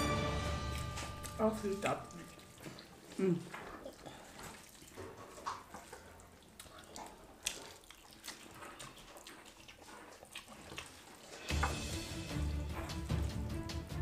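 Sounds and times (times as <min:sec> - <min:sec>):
people slurping and chewing noodles: 0:00.0 - 0:14.0.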